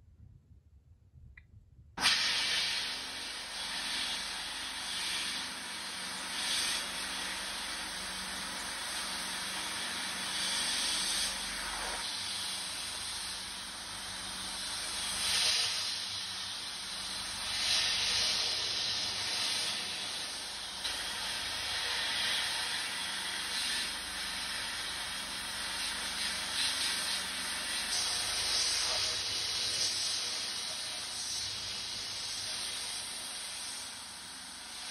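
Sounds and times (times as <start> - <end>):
sandblasting gun hissing: 2.0 - 34.9.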